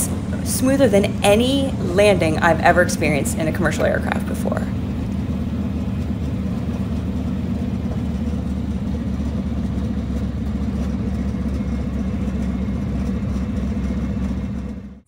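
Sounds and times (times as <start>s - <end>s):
radial aircraft engine running: 0.0s - 15.0s.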